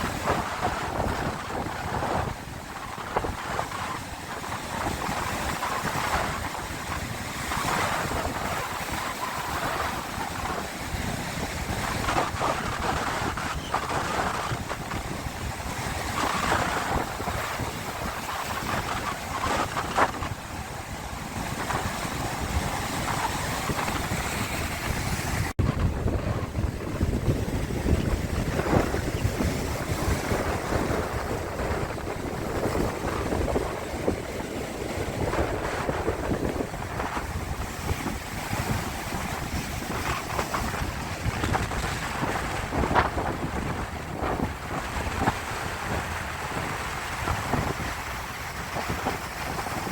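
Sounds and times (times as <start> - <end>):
sea waves washing: 0.0 - 49.9
wind buffeting microphone: 0.0 - 49.9.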